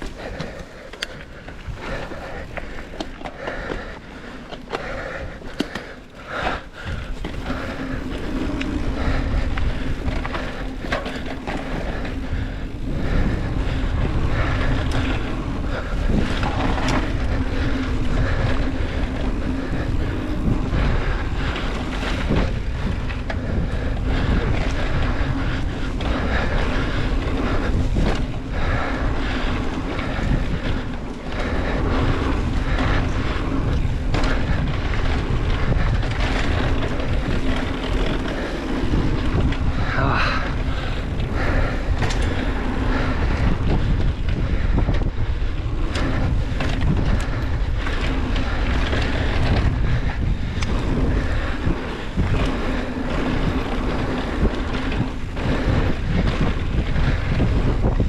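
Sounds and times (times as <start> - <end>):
bike knocks and rattles: 0.0 - 58.0
wind rushing over microphone: 0.0 - 58.0.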